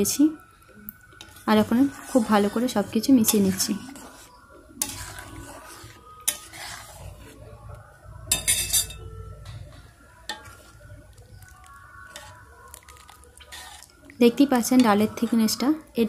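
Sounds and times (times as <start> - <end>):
metal spoon scraping a pan: 1.1 - 7.6, 8.3 - 15.7.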